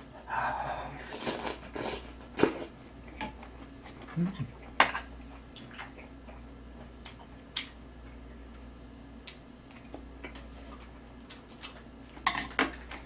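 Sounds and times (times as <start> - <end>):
faint steady hum: 0.0 - 13.0
person chewing food: 1.0 - 13.0.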